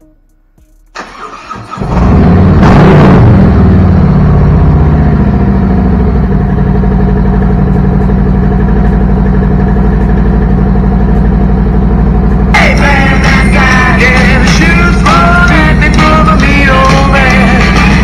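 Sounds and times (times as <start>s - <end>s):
motorcycle engine idling: 3.6s - 18.0s.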